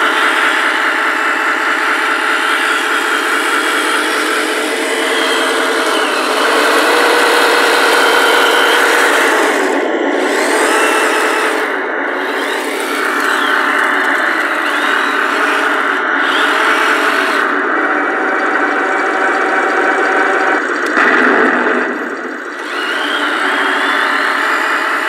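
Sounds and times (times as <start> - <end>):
toy tank gearboxes whirring: 0.0 - 25.0.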